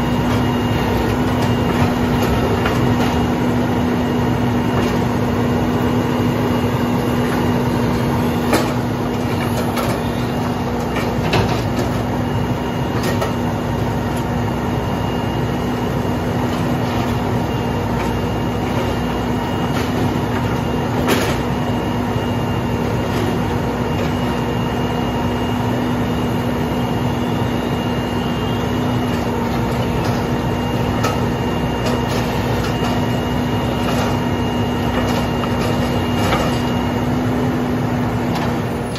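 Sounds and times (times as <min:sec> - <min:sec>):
high hydraulic whine: 0:00.0 - 0:38.9
truck engine and hydraulic pump: 0:00.0 - 0:38.9.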